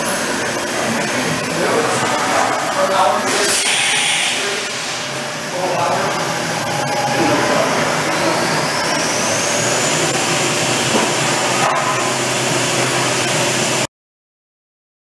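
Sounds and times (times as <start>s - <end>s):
high machine whine: 0.0s - 13.9s
milling machine rushing noise: 0.0s - 13.9s.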